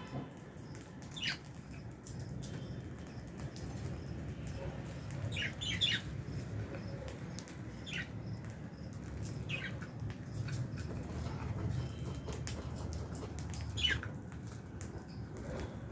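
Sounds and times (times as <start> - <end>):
birds chirping: 0.6 - 15.8.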